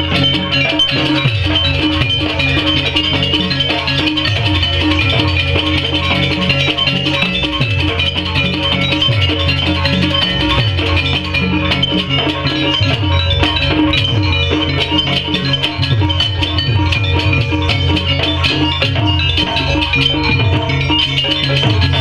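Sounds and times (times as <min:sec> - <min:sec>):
drums: 0:00.0 - 0:22.0
metallic tuned percussion ringing: 0:00.0 - 0:22.0.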